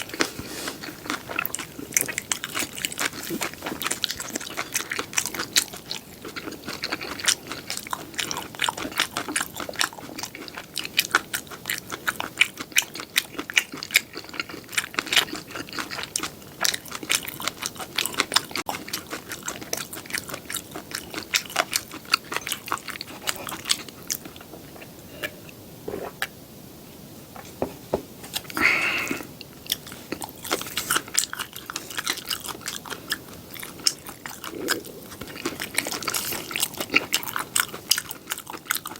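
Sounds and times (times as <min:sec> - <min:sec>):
crunchy chewing: 0:00.0 - 0:26.3, 0:28.2 - 0:38.9.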